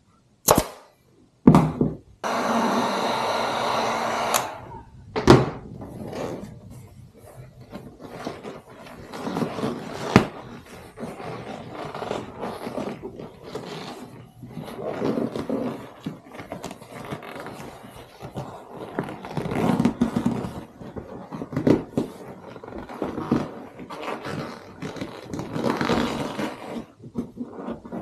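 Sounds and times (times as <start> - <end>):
vinyl cover rubbing and scraping: 5.5 - 28.0.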